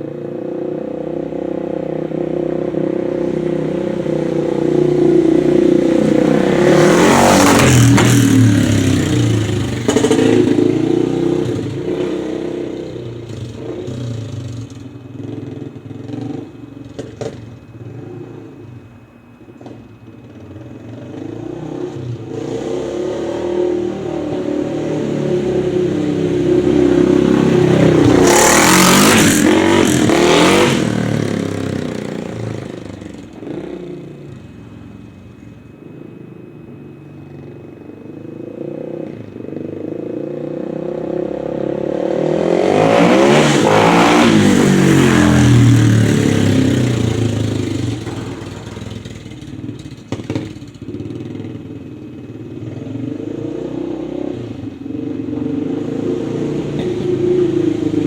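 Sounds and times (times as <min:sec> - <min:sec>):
dirt bike passing by: 0:00.0 - 0:18.9, 0:19.6 - 0:58.0.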